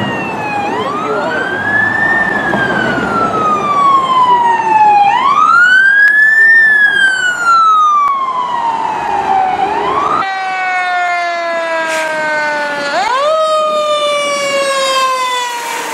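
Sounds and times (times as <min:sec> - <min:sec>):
fire engine siren falling wail: 0:00.0 - 0:15.9
police siren wailing: 0:00.0 - 0:15.9
road and engine noise: 0:00.0 - 0:15.9.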